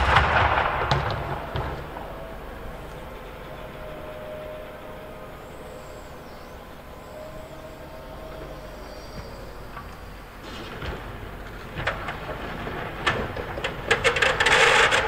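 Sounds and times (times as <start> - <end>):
diesel engine running: 0.0 - 15.0
faint whine: 0.0 - 15.0.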